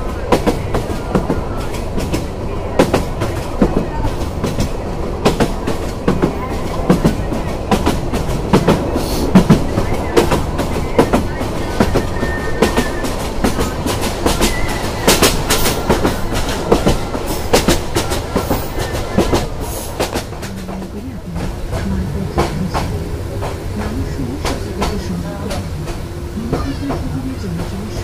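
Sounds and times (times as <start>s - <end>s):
train rumble inside carriage: 0.0s - 28.0s
wheels clacking on track: 0.0s - 28.0s.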